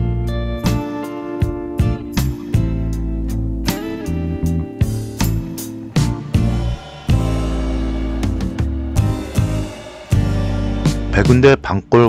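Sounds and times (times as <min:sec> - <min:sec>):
strummed guitar music with bass: 0:00.0 - 0:11.5.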